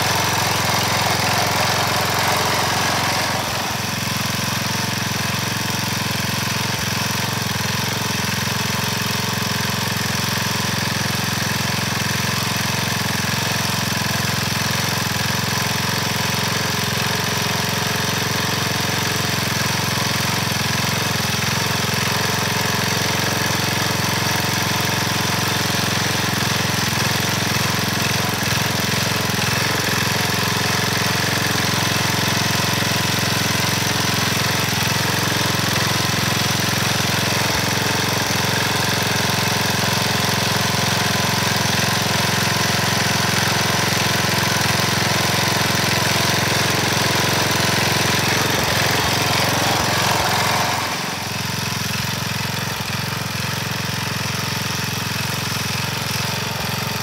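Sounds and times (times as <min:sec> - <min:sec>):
tines churning dry soil: 0:00.0 - 0:07.8, 0:15.0 - 0:57.0
garden tiller engine running: 0:00.0 - 0:57.0.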